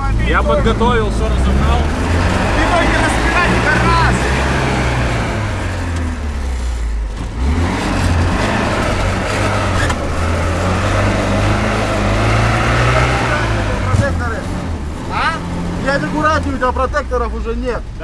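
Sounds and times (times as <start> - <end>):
van engine running: 0.0 - 18.0.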